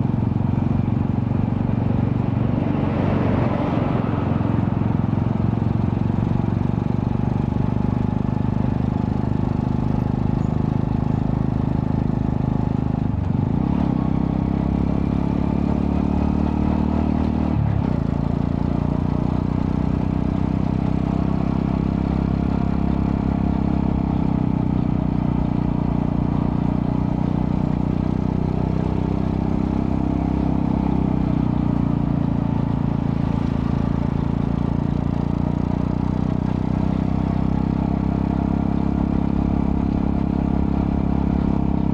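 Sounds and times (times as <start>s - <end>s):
single-cylinder motorcycle engine: 0.0s - 41.9s.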